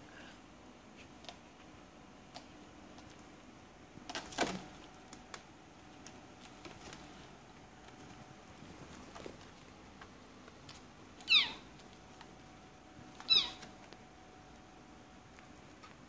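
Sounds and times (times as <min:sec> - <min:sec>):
kittens scuffling with claw scratches: 0:02.3 - 0:16.0.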